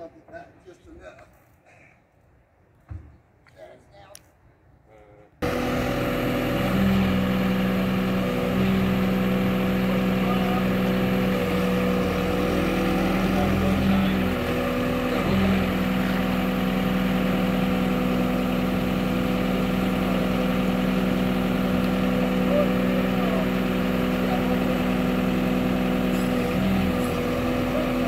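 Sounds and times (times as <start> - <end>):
forklift engine idling: 5.4 - 28.0.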